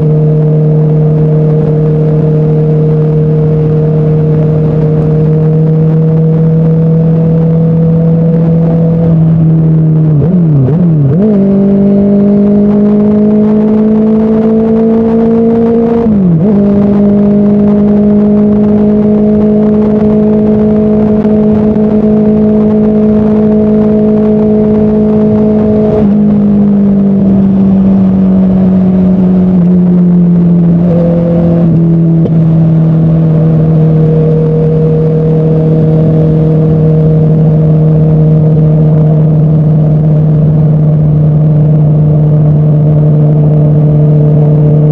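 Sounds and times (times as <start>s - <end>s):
motorcycle engine cruising: 0.0s - 44.9s
road noise: 0.0s - 44.9s
wind noise: 0.0s - 44.9s.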